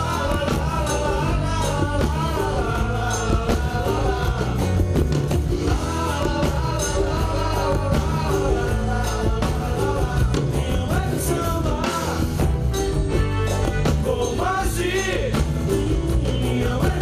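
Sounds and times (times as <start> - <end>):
acoustic guitar: 0.0 - 17.0
bass line: 0.0 - 17.0
live band playing: 0.0 - 17.0
percussion: 0.0 - 17.0.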